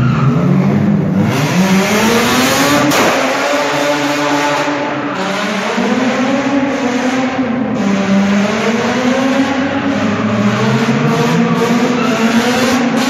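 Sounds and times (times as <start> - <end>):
car engine revving hard: 0.5 - 13.0.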